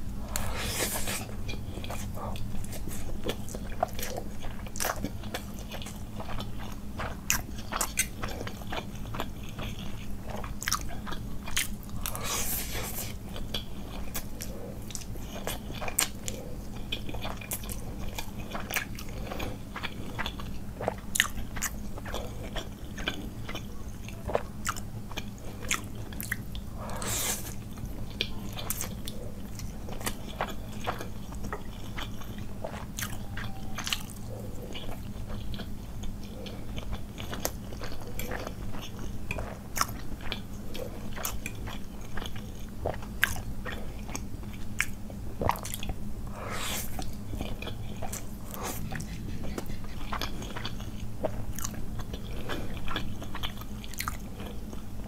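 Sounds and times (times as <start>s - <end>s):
low hum: 0.0s - 55.0s
chewing and slurping noodles: 0.3s - 54.8s.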